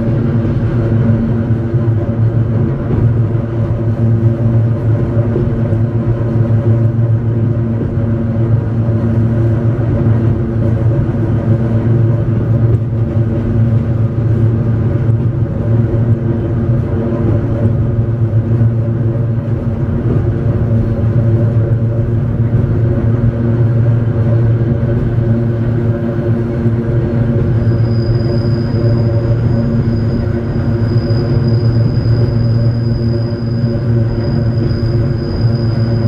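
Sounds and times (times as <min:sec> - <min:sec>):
electric train motor drone: 0:00.0 - 0:36.0
wheel and track rumble: 0:00.0 - 0:36.0.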